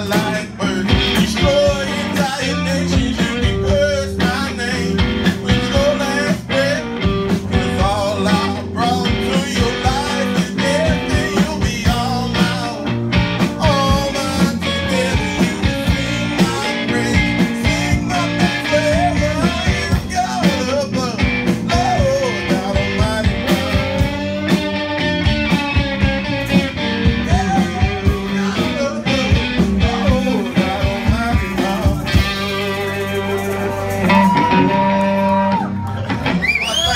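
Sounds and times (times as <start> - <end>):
person singing: 0.0 - 24.7, 27.1 - 36.9
bass guitar: 0.0 - 36.9
drum kit keeping a steady beat: 0.0 - 36.9
electric guitar: 0.0 - 36.9.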